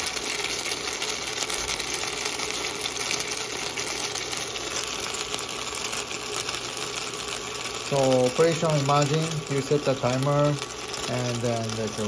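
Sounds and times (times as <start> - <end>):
dumplings sizzling in a frying pan: 0.0 - 12.0.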